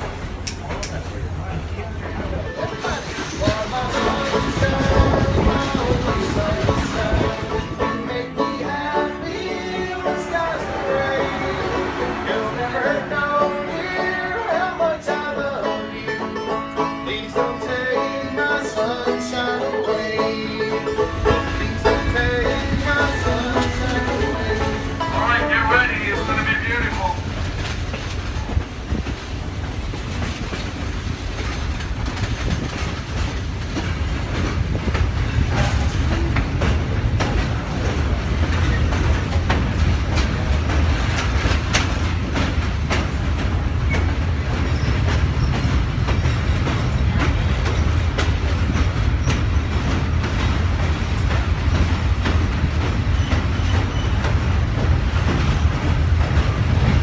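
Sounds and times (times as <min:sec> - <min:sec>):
wheels clicking and rattling: 0:00.0 - 0:09.5, 0:20.8 - 0:57.0
train rumbling along track: 0:00.0 - 0:57.0.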